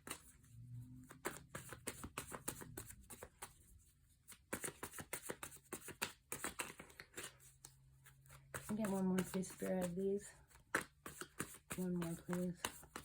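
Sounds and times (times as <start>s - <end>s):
cards being shuffled by hand: 0.0s - 13.0s.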